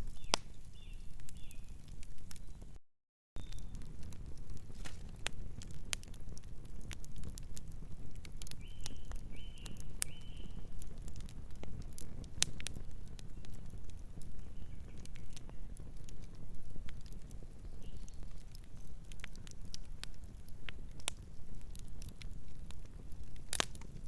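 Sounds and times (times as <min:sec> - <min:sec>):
wood fire crackling: 0:00.0 - 0:02.8, 0:03.4 - 0:24.0.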